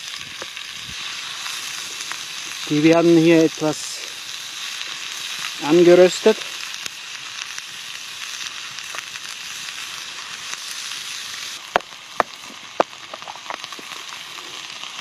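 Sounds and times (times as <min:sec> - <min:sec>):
vegetables sizzling in butter: 0:00.0 - 0:15.0.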